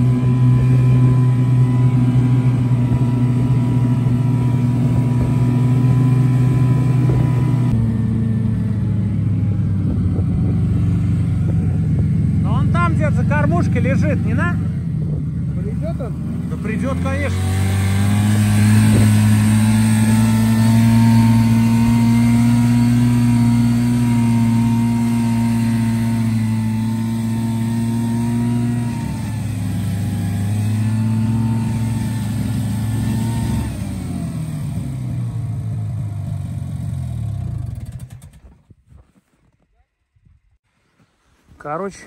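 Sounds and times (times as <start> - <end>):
vehicle engine running: 0.0 - 38.6.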